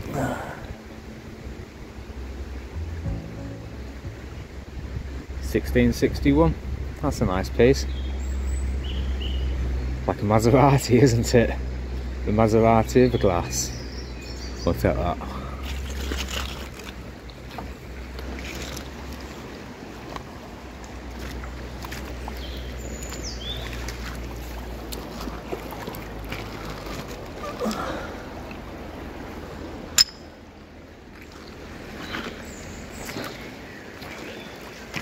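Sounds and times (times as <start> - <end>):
river water sloshing: 0.0 - 35.0.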